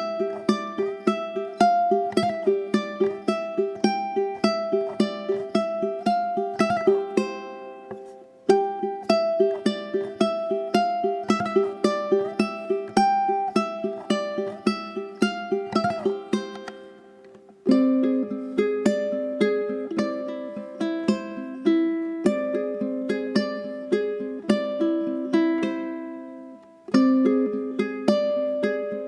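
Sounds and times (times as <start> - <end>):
gentle instrumental music: 0.0 - 29.0.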